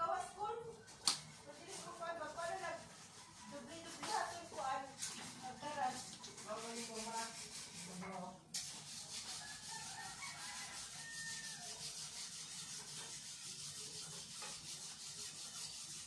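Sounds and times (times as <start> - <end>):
knife scraping chicken skin: 0.8 - 16.0.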